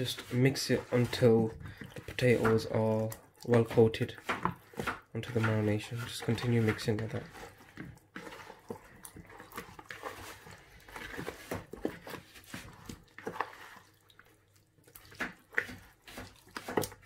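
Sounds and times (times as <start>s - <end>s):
hand squishing food in marinade: 0.0s - 17.0s.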